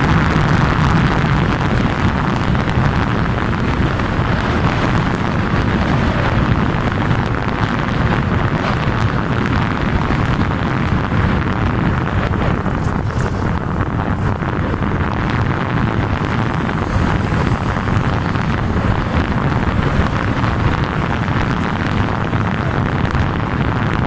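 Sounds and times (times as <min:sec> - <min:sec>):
vehicle road and engine noise: 0:00.0 - 0:24.0
wind buffeting microphone: 0:00.0 - 0:24.0.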